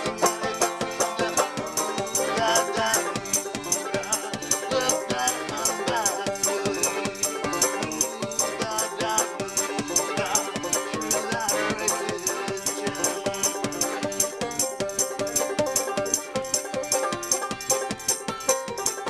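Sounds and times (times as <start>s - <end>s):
banjo folk-punk song: 0.0s - 19.0s.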